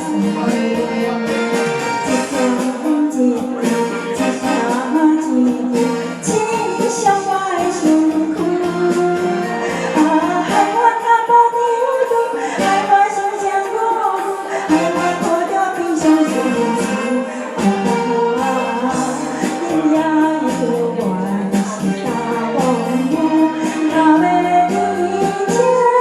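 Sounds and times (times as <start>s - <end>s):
karaoke backing track: 0.0s - 26.0s
woman singing hoarsely: 2.2s - 26.0s.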